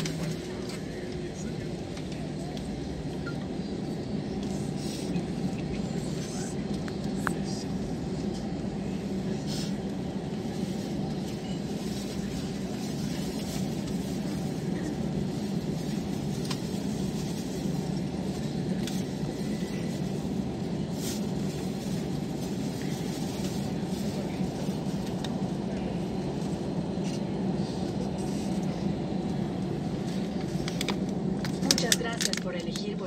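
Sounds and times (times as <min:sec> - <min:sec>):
airplane cabin low rumble: 0:00.0 - 0:33.0.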